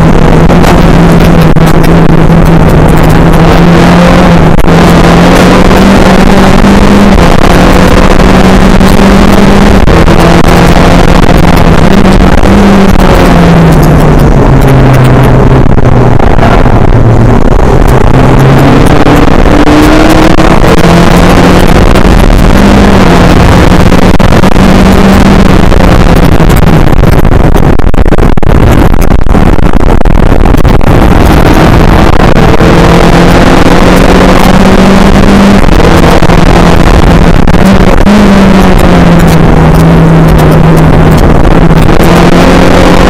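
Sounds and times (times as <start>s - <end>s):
heavy rushing noise: 0.0s - 43.0s
race car engine revving: 0.0s - 43.0s.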